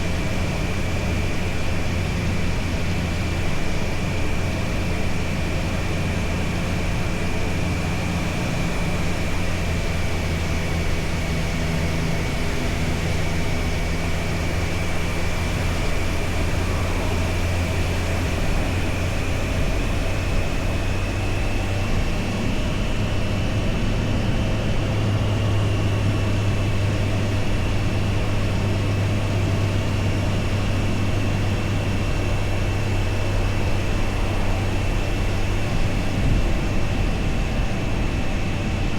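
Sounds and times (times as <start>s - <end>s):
riding wind and road noise: 0.0s - 38.9s.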